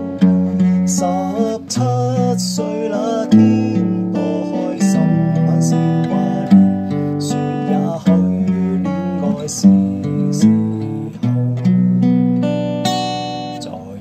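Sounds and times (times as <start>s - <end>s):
acoustic guitar fingerpicked: 0.0s - 14.0s.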